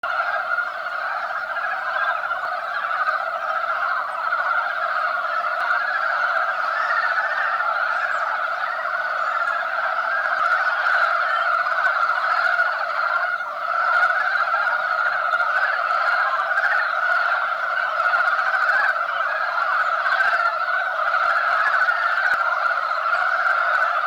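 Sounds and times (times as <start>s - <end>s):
frog chorus croaking: 0.0s - 24.0s.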